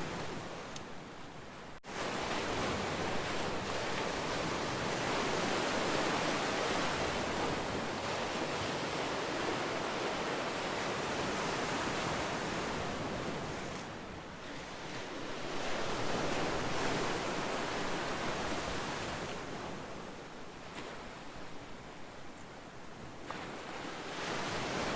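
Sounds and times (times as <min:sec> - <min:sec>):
ocean waves: 0:00.0 - 0:24.9.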